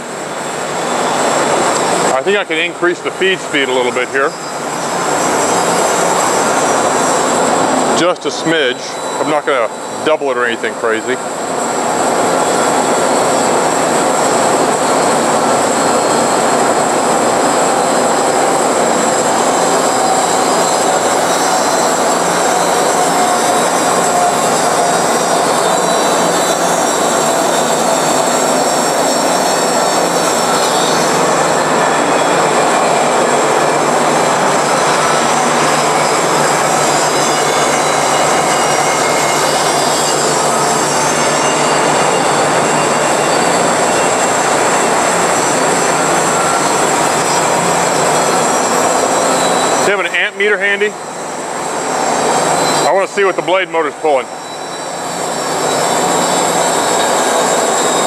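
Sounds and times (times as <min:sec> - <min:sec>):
high-pitched whine: 0:00.0 - 0:58.0.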